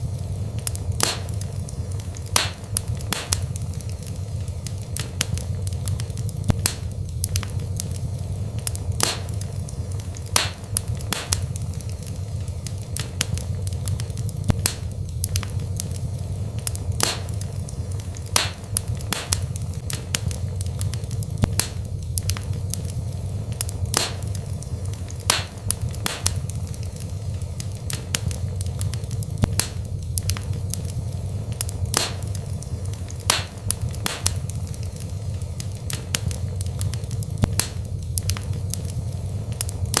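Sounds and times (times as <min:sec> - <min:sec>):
low rush of flames: 0:00.0 - 0:40.0
wood fire crackling and popping: 0:00.0 - 0:40.0.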